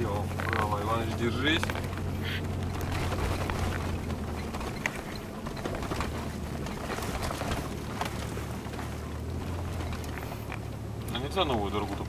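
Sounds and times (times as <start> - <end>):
car body rattles and creaks: 0.0 - 12.0
car engine and tyre drone: 0.0 - 12.0.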